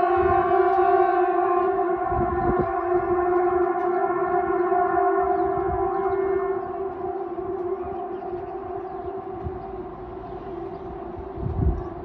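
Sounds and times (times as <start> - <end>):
air raid siren steady tone: 0.0 - 12.0.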